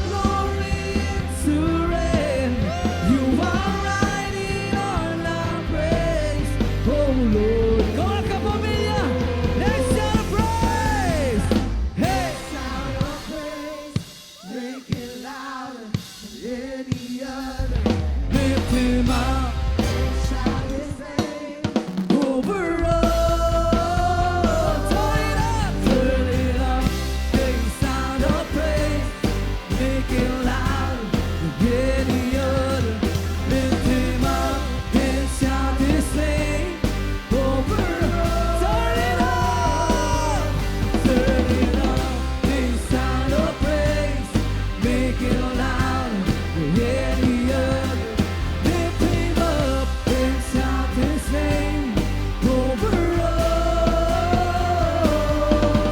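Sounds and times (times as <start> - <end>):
bass guitar: 0.0 - 14.0, 17.5 - 21.2, 22.4 - 55.9
drum kit: 0.0 - 55.9
person singing wordless vocals: 0.0 - 55.9.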